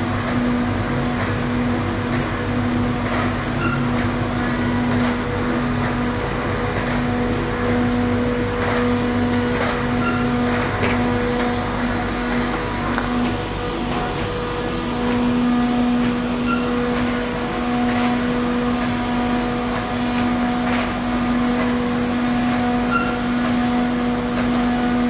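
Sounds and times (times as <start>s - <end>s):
machine drone with hum: 0.0s - 25.0s.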